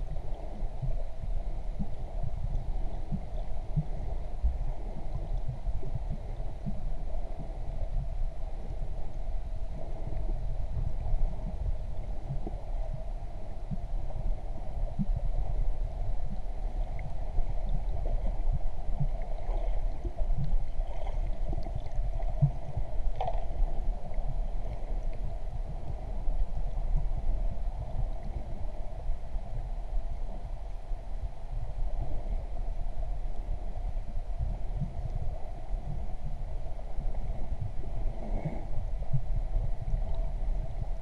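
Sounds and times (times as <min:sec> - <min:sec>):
muffled underwater rumble: 0:00.0 - 0:41.0.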